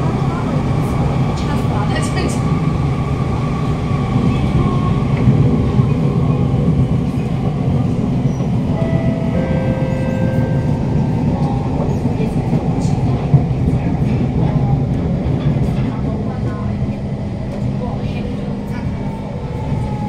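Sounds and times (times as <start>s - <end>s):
train motor and wheels rumbling: 0.0s - 20.0s.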